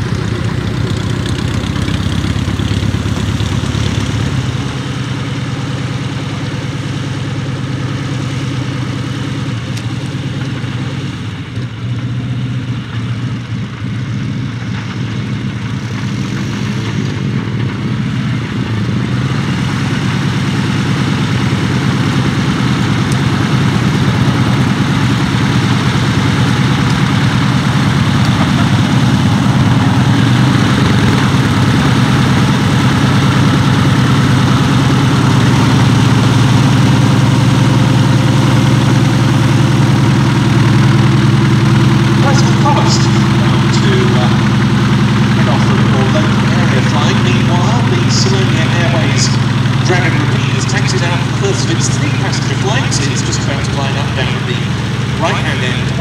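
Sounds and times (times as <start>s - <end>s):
radial aircraft engine droning: 0.0s - 56.0s.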